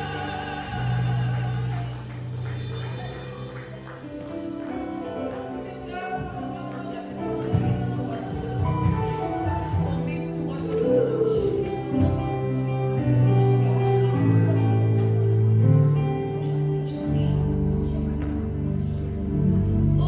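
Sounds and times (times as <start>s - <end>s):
gospel band playing: 0.0s - 20.0s.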